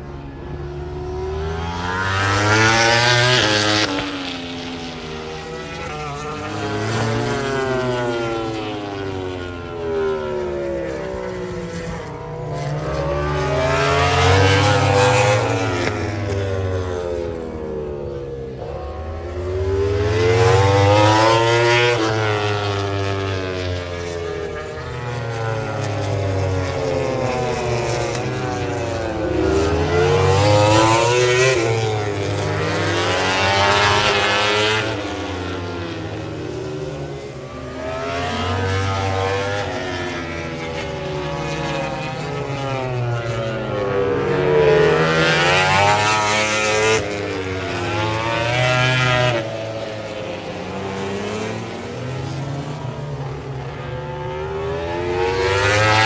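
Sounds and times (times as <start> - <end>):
racing motorcycles passing: 0.0 - 56.0.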